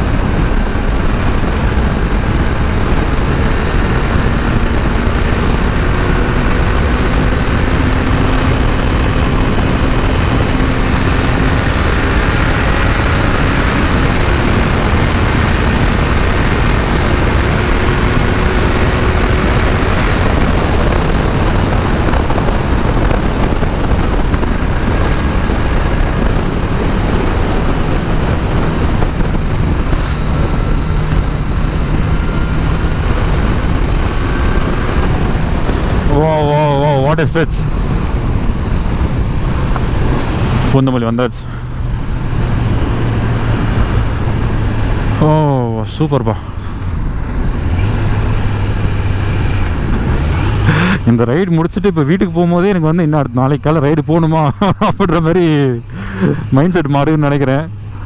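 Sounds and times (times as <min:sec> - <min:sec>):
motorcycle engine cruising: 0:00.0 - 0:58.0
wind rush on microphone: 0:00.0 - 0:58.0.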